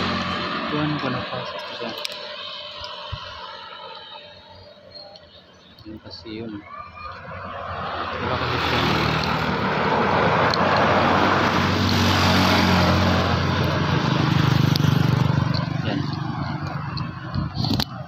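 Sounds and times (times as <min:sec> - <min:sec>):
motor vehicle passing: 0:00.0 - 0:18.0.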